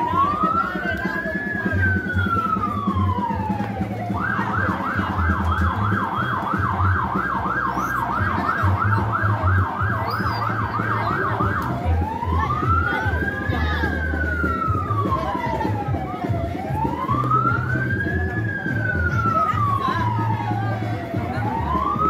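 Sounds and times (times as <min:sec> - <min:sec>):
emergency vehicle siren: 0:00.0 - 0:22.0.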